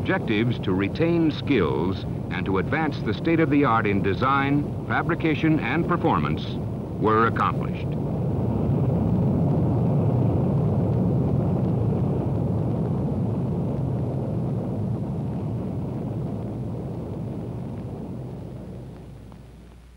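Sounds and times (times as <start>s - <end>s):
rocket engine roaring: 0.0s - 19.9s.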